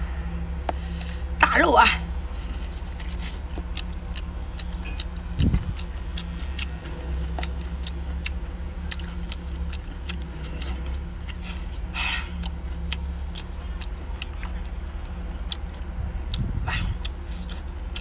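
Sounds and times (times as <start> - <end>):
steady low hum: 0.0 - 18.0
wet eating clicks and smacks: 2.8 - 18.0.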